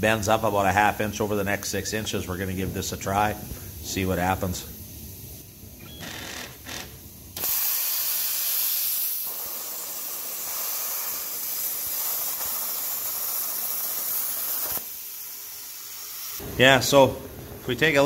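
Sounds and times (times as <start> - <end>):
plasma cutter hissing: 0.2 - 5.6, 6.9 - 18.0.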